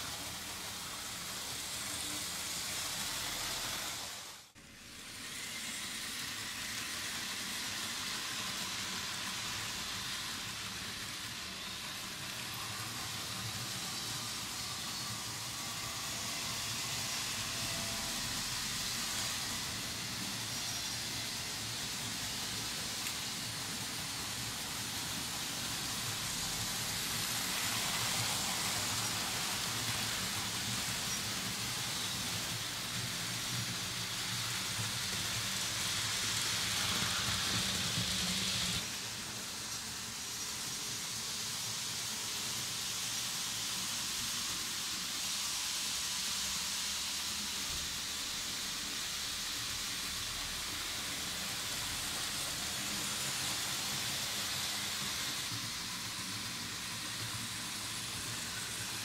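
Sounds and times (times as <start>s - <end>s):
model train wheels rumbling: 4.8s - 59.0s.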